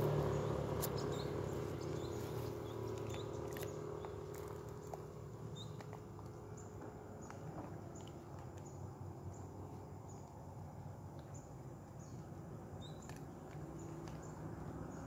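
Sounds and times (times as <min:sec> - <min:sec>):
faint outdoor rumble: 0:00.0 - 0:15.0.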